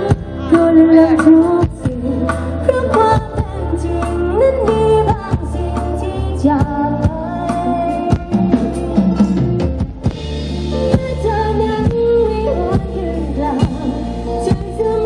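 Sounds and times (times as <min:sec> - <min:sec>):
woman singing into microphone: 0:00.0 - 0:09.0, 0:10.7 - 0:15.0
drum kit beat: 0:00.0 - 0:14.9
electric bass: 0:00.0 - 0:15.0
keyboard: 0:00.0 - 0:15.0.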